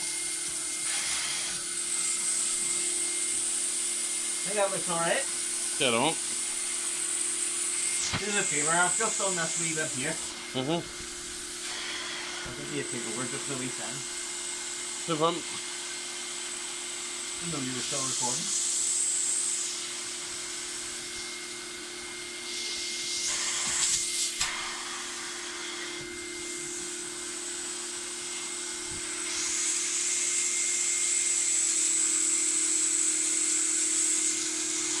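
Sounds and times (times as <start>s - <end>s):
vacuum suction hiss: 0.0s - 30.9s
vacuum motor hum: 0.0s - 35.0s.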